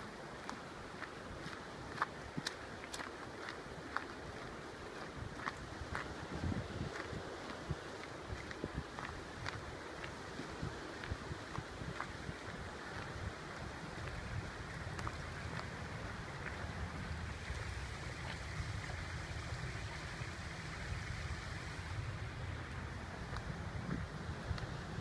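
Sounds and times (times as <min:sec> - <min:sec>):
faint footsteps on path: 0:00.0 - 0:25.0
stream water rushing: 0:00.0 - 0:25.0
wind buffeting microphone: 0:01.0 - 0:25.0.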